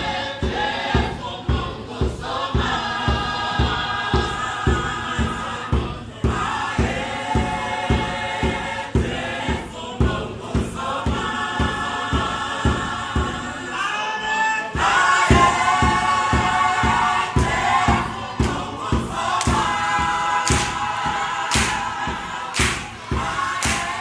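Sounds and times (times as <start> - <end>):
low thumping beat: 0.0 - 13.7, 14.8 - 24.0
choir singing in harmony: 0.0 - 24.0.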